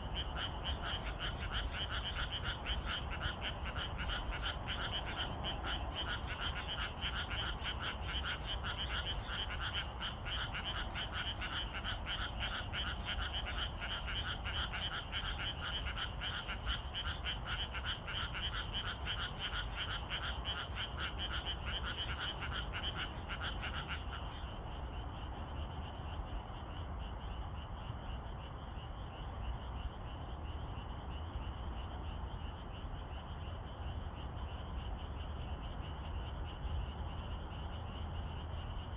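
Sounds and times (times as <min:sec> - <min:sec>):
frogs croaking chorus: 0:00.0 - 0:38.9.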